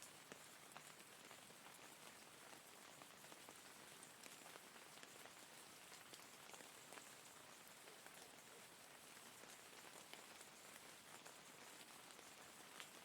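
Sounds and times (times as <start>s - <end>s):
faint rain hiss: 0.0s - 13.0s.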